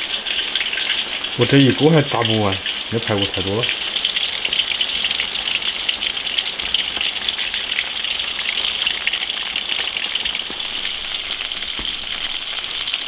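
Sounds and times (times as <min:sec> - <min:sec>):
meat deep-frying in hot oil: 0:00.0 - 0:13.0.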